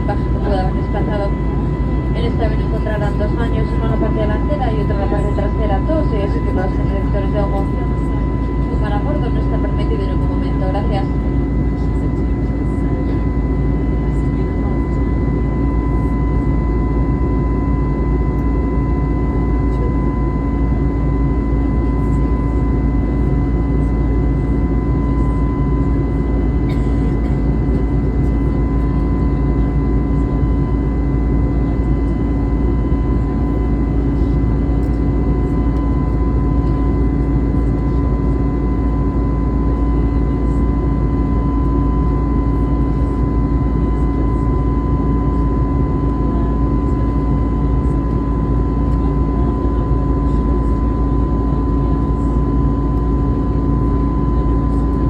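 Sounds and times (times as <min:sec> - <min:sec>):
jet engine and airflow rush: 0:00.0 - 0:55.0
thin steady whine: 0:00.0 - 0:55.0.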